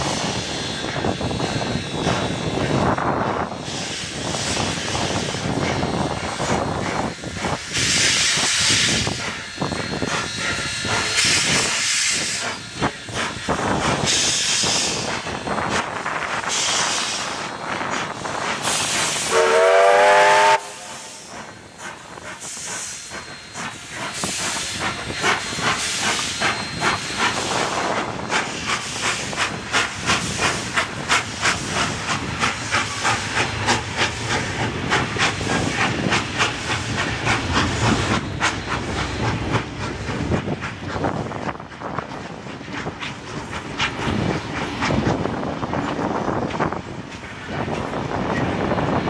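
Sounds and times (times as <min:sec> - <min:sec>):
train wheels clattering over rail joints: 0:00.0 - 0:19.3, 0:21.2 - 0:49.0
steam locomotive hissing: 0:00.0 - 0:49.0.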